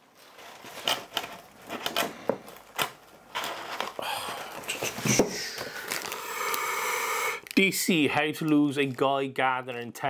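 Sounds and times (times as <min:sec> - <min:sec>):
packing material rustling: 0:00.0 - 0:09.7.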